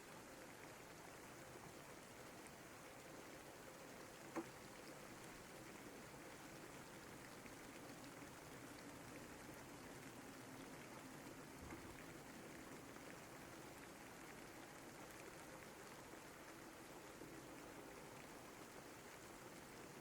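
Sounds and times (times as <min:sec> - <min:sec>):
faint drip ticks: 0:00.0 - 0:20.0
soft steady rain: 0:00.0 - 0:20.0.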